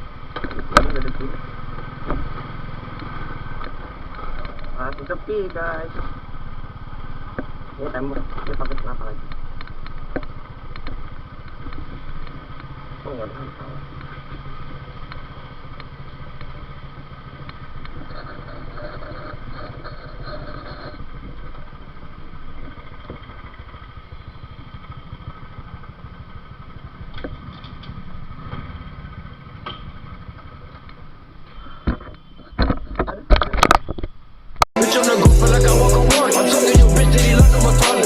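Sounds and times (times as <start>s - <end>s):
motorcycle engine rumbling: 0.0s - 38.0s
road noise: 0.0s - 38.0s.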